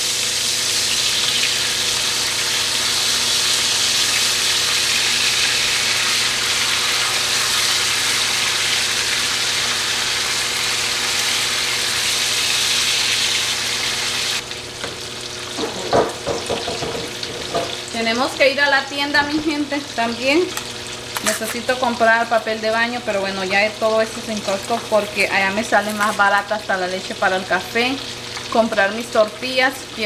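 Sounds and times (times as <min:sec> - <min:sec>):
food sizzling in a frying pan: 0:00.0 - 0:30.0
range hood fan humming: 0:00.0 - 0:30.0.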